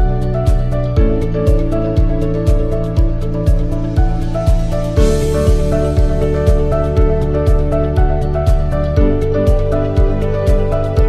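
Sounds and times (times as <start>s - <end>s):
background music with deep beat: 0.0s - 11.0s.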